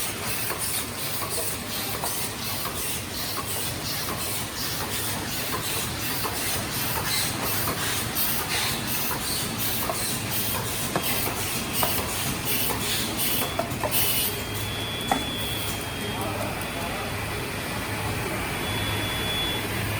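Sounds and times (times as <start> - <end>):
forming machine running: 0.0 - 19.9.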